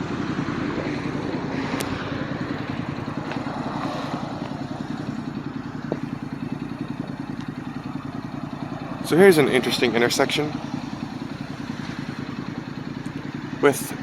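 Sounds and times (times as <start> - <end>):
street traffic: 0.0 - 14.0
vehicle engine running: 0.0 - 14.0.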